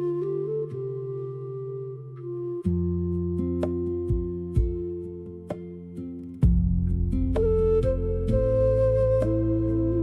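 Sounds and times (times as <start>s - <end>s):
gentle plucked guitar music: 0.0s - 10.0s.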